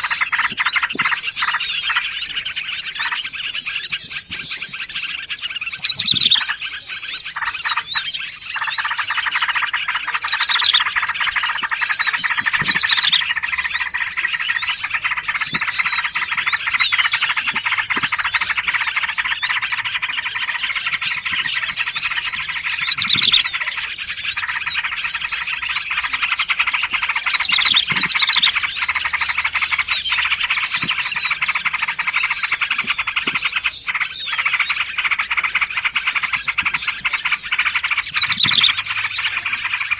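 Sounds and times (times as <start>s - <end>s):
chorus of small songbirds: 0.0s - 39.9s.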